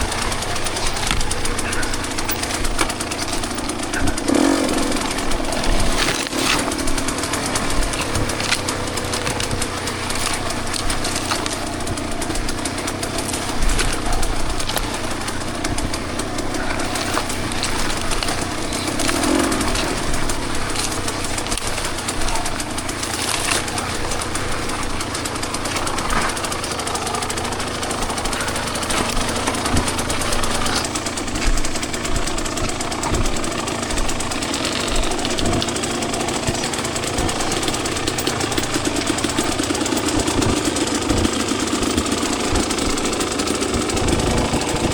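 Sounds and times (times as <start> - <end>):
bike knocking over rough ground: 0.0 - 44.9
dirt bike engine revving: 0.0 - 44.9.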